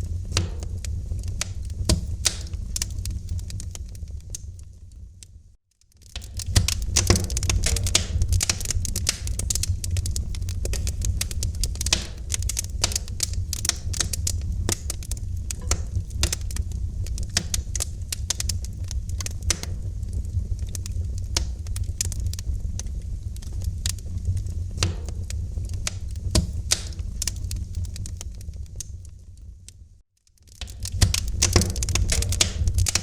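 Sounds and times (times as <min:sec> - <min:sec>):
fire pops and snaps: 0:00.0 - 0:33.0
wood fire crackling: 0:00.0 - 0:33.0.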